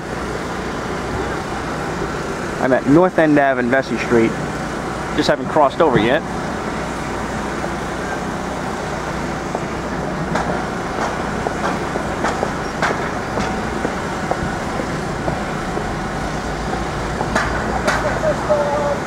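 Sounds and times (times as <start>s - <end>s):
street traffic hum: 0.0s - 19.0s.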